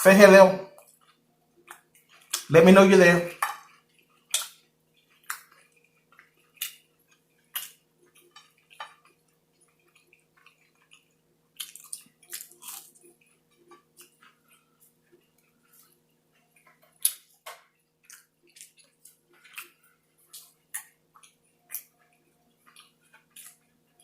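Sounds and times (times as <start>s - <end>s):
wet squishy chewing: 3.4s - 24.0s.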